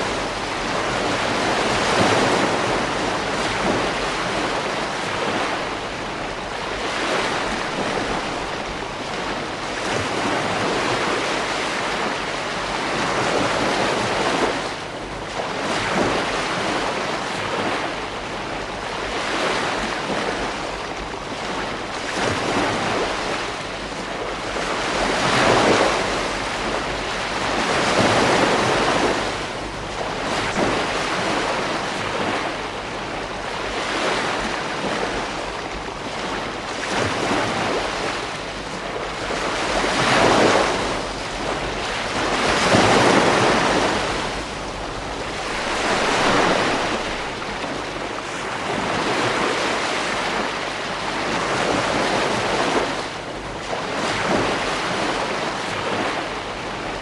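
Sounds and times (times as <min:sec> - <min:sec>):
ocean waves breaking: 0:00.0 - 0:57.0
wind noise on microphone: 0:00.0 - 0:57.0.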